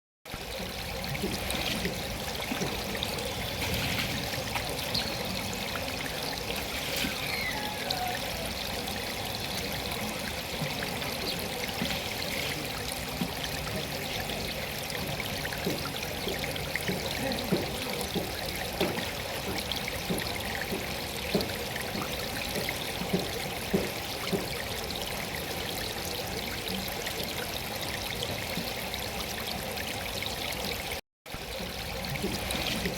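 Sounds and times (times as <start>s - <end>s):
water falling and splashing: 0.3s - 32.9s.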